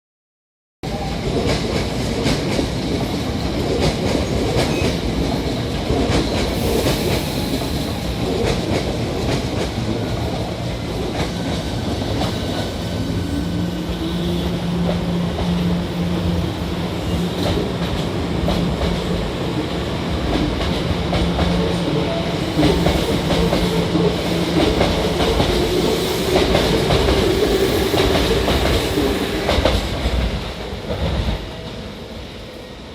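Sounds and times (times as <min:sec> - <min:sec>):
train rumbling: 0:00.8 - 0:32.9.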